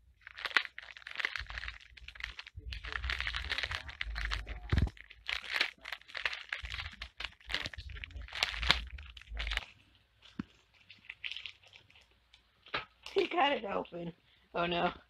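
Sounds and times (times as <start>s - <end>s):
rat gnawing plastic wrapper: 0.0s - 13.2s.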